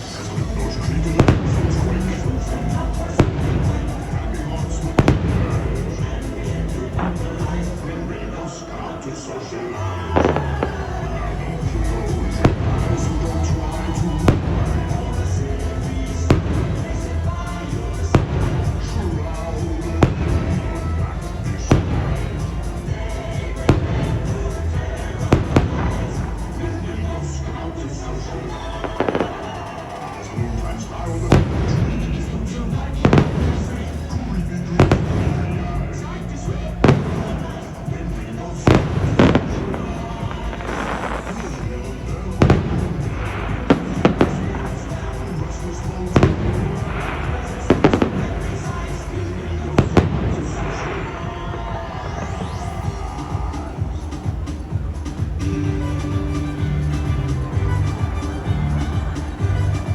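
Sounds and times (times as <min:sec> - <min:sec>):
fireworks bangs: 0:00.0 - 0:59.9
music soundtrack: 0:00.0 - 0:59.9.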